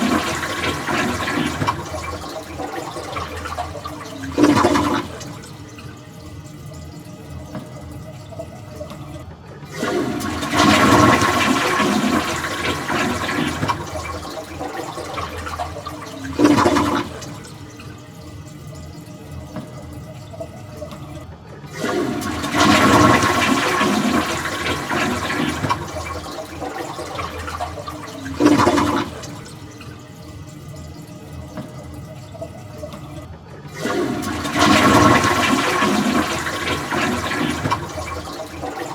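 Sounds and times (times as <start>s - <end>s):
toilet flushing: 0.0s - 38.9s.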